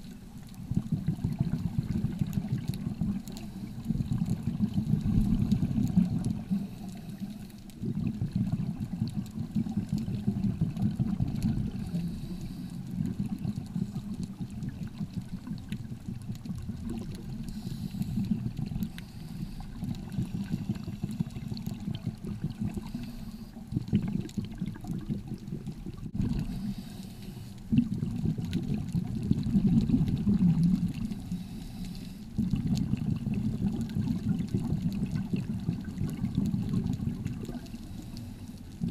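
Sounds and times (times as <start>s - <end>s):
underwater rumble of moving water: 0.0s - 38.9s
water bubbling: 0.0s - 38.9s.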